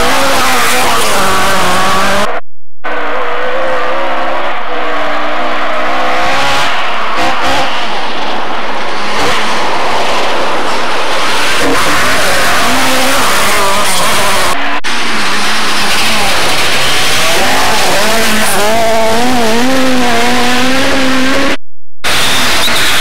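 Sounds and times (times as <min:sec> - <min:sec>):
rally car engines revving: 0:00.0 - 0:23.0.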